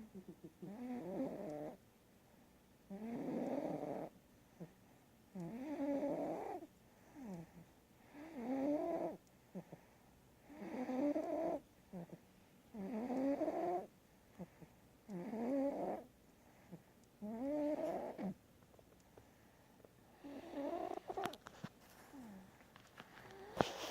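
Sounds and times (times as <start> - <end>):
quiet breaths: 0.0 - 23.9.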